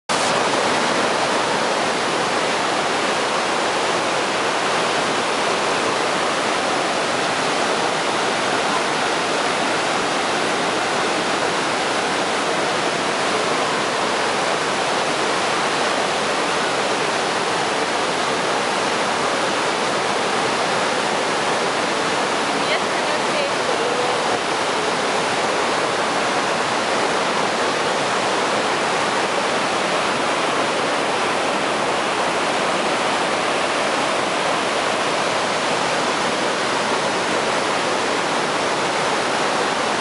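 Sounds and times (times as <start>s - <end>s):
waterfall rushing: 0.1s - 40.0s.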